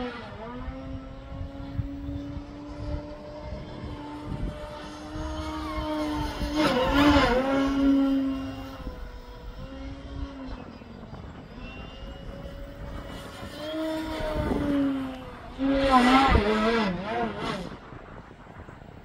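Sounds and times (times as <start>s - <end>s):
model plane propeller drone: 0.0s - 19.0s.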